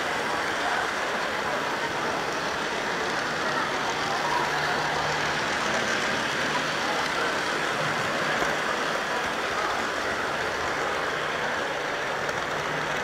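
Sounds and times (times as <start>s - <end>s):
model train wheels and motor: 0.0s - 13.0s.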